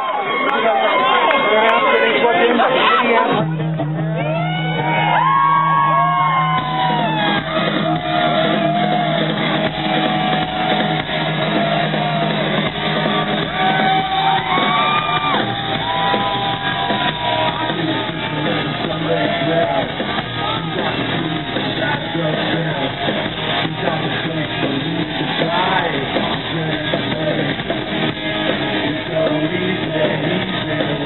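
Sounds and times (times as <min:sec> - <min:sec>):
crowd shouting: 0:00.0 - 0:31.0
loud rock band playing: 0:00.0 - 0:31.0.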